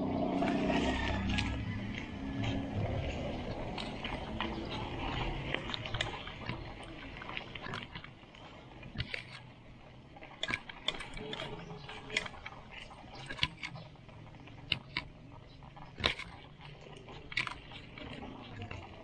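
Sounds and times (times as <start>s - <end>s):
bicycle rattling over bumps: 0.0s - 19.0s
tyre and road noise: 0.0s - 19.0s.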